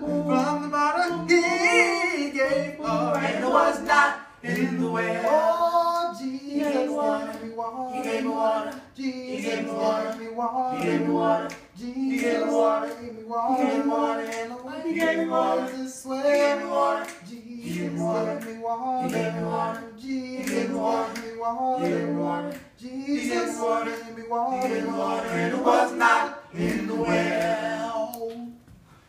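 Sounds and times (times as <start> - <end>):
boys singing a cappella: 0.0 - 28.6.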